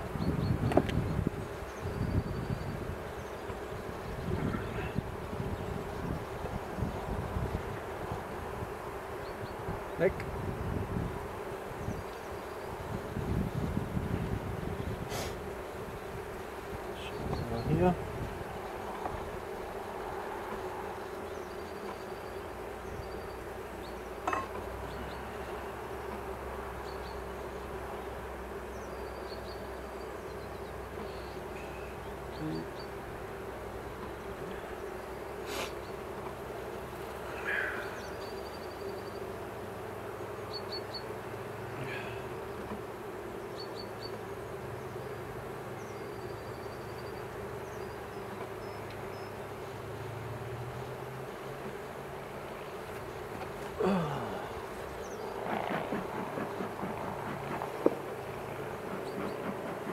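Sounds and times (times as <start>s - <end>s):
honeybees humming: 0.0s - 59.9s.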